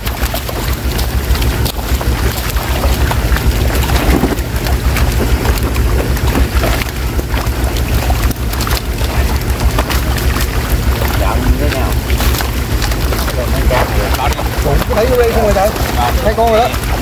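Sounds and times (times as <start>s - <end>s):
fish thrashing and splashing: 0.0s - 17.0s
sharp splashes: 0.0s - 17.0s
steady low rumble: 0.0s - 17.0s.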